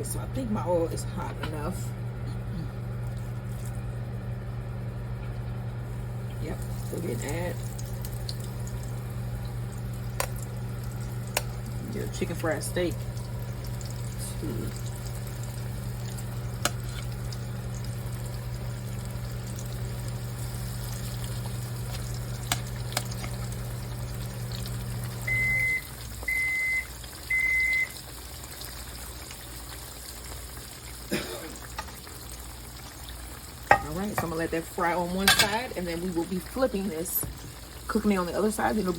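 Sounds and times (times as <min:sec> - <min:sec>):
low appliance hum: 0:00.0 - 0:38.9
steaks sizzling in frying oil: 0:05.9 - 0:38.9.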